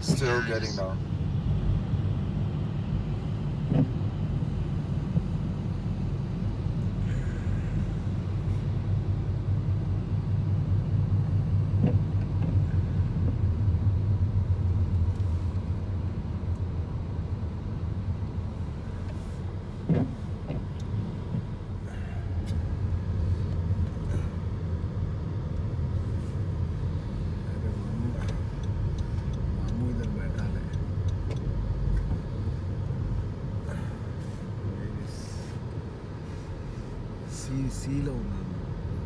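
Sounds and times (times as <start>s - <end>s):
car road noise rumble: 0.0s - 39.0s.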